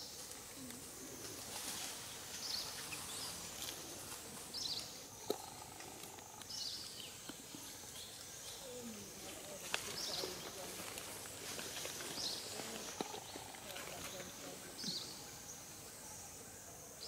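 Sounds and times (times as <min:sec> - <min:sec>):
faint forest ambience: 0:00.0 - 0:17.0.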